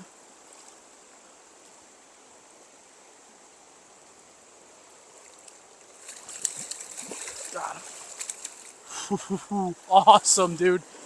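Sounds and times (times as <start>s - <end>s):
stream flowing water: 0.0s - 11.0s.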